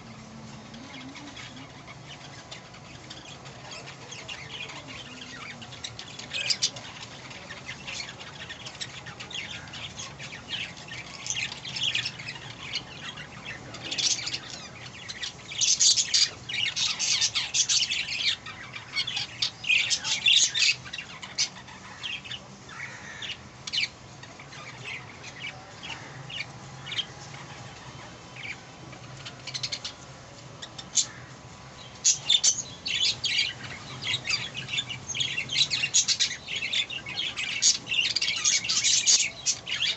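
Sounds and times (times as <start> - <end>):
budgerigars chirping and squawking: 0.0 - 30.0, 30.6 - 39.9.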